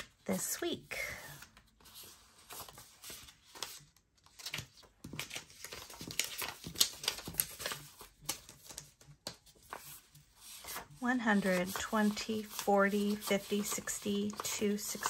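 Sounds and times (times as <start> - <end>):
banknotes rustling and crinkling: 0.0 - 15.0.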